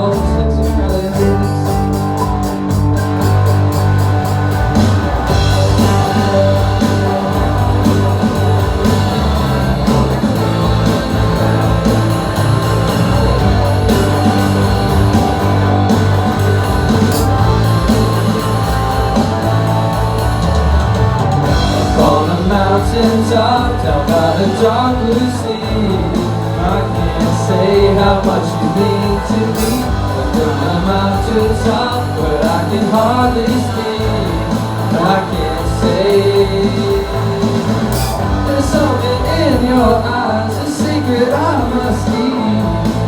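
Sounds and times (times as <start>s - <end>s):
drum kit: 0.0s - 43.0s
electric guitar: 0.0s - 43.0s.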